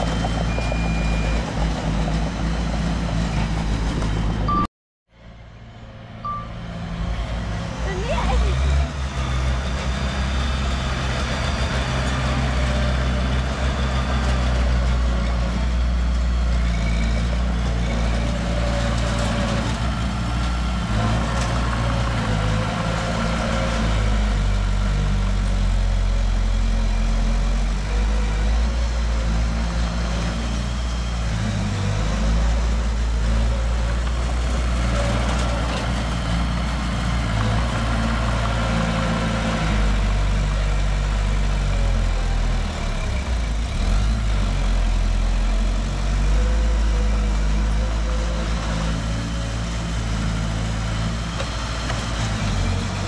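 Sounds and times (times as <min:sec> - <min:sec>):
heavy diesel engine running: 0:00.0 - 0:53.0.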